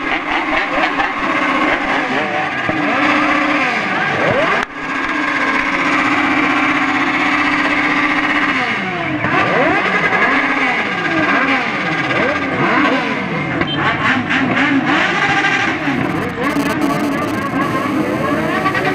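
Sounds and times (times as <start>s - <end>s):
engine revving: 0.0s - 18.9s.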